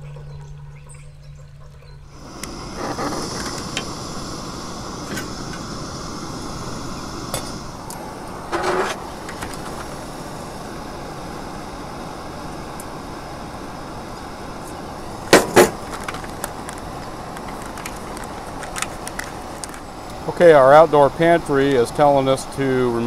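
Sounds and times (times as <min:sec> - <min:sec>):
camp stove burner hissing: 0:02.1 - 0:23.0.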